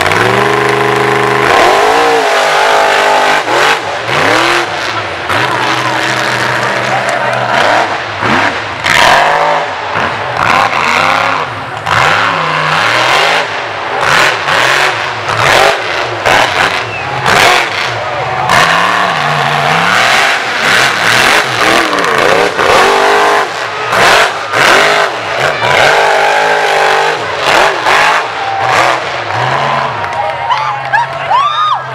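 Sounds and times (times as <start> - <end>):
truck engine revving hard: 0.0 - 30.9.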